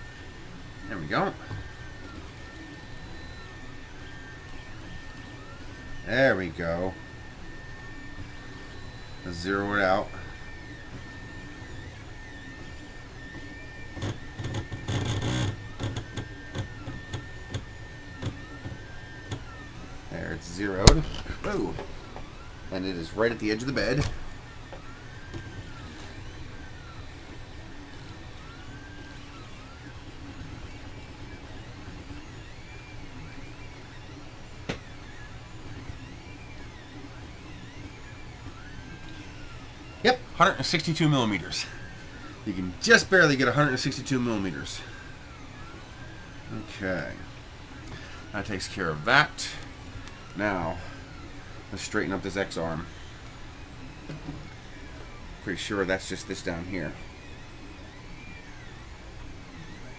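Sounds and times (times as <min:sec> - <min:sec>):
fan hum: 0:00.0 - 0:59.9
stepper motors whining: 0:00.0 - 0:59.9.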